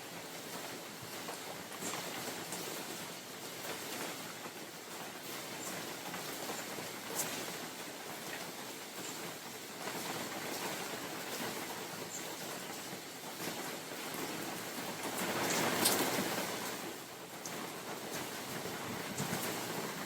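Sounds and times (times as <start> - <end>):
rain falling in forest: 0.0 - 20.0
wind gust through trees: 0.0 - 20.0.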